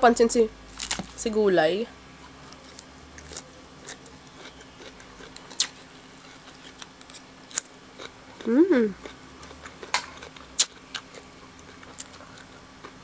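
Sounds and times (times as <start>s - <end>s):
person chewing noodles: 2.4s - 13.0s.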